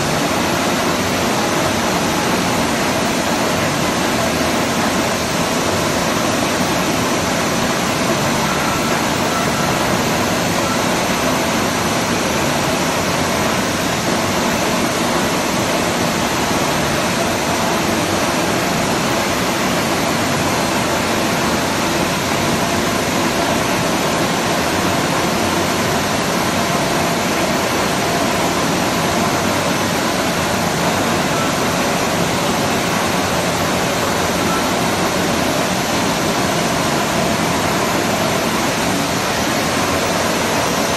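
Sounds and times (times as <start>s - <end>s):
milling machine running: 0.0s - 40.9s.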